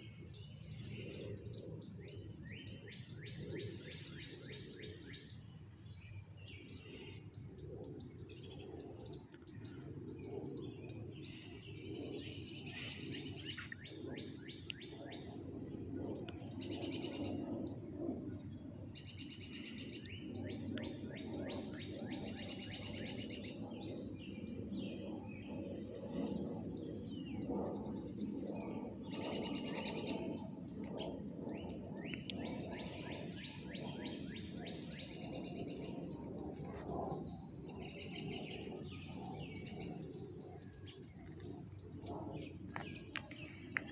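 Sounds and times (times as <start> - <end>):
songbirds chirping and singing: 0.0 - 43.9
steady low rumble: 0.0 - 43.9.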